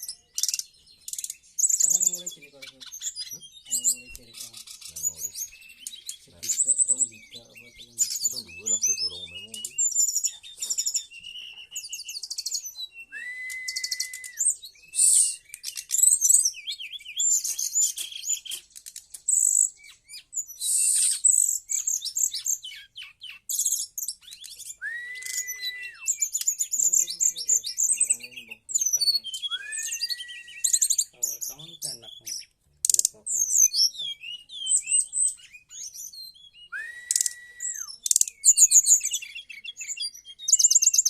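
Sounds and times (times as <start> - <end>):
bird singing chirps and trills: 0.0 - 41.0
long steady bird whistle: 5.2 - 18.7, 19.3 - 32.0, 33.5 - 41.0.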